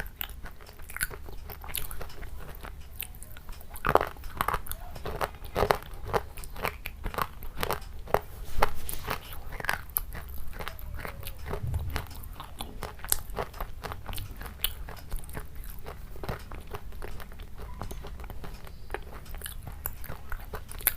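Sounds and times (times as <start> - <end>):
person chewing crunchy food: 0.0 - 20.9.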